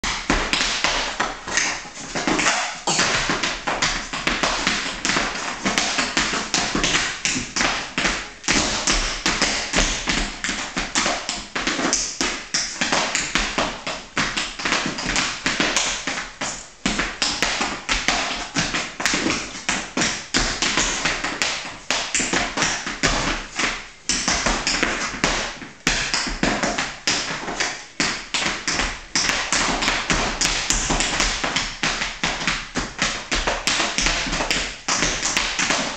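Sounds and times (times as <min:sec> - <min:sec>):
tap dancing on straw mat: 0:00.0 - 0:35.9.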